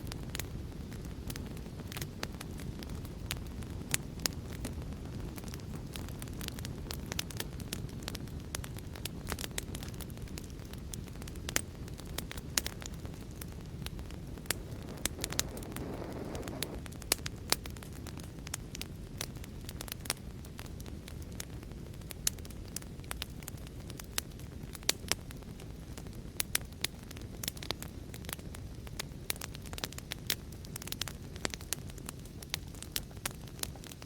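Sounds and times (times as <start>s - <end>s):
fire crackling and popping: 0.0s - 34.0s
low rush of flame: 0.0s - 34.0s.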